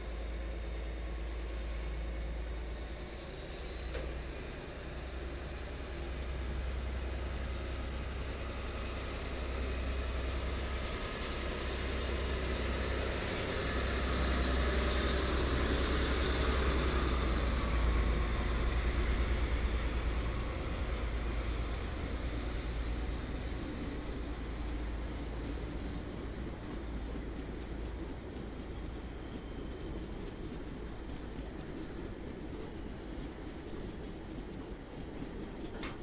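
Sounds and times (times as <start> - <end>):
low train hum: 0.0 - 36.0
train rushing noise: 2.8 - 36.0.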